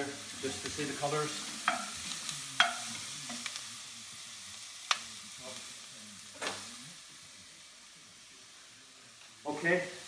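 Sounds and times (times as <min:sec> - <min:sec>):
vegetables sizzling in a pot: 0:00.0 - 0:10.0.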